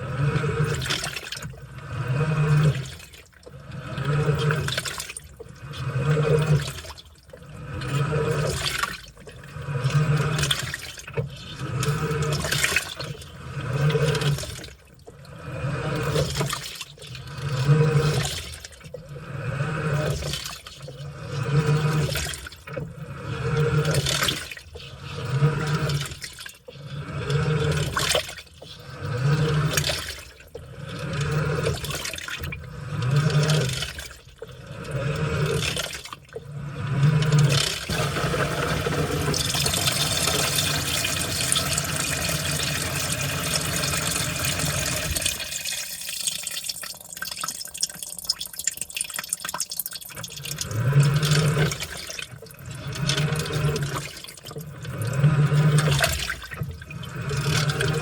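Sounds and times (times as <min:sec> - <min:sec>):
washing machine motor humming: 0:00.0 - 0:58.0
water and laundry sloshing: 0:00.0 - 0:58.0.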